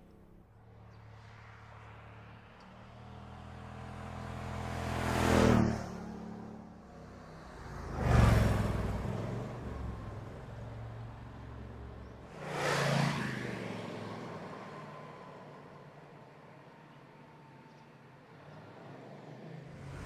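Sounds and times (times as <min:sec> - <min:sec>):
cars passing at speed: 0:00.2 - 0:17.6, 0:18.2 - 0:20.0.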